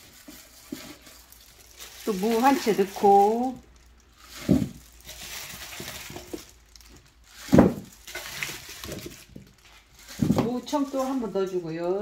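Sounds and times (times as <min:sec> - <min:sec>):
radish chunks dropping into plastic: 0:00.0 - 0:11.4
handling noise: 0:00.0 - 0:11.7.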